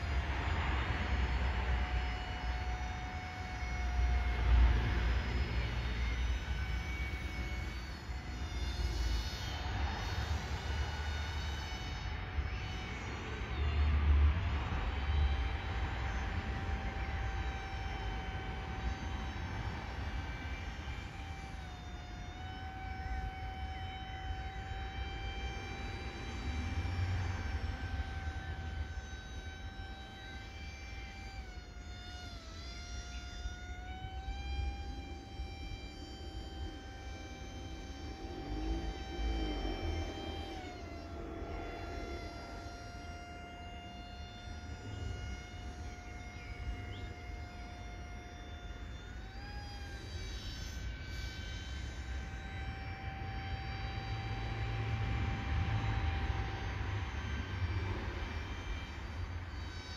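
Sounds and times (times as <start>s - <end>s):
model paramotor propeller whine: 0.0s - 59.9s.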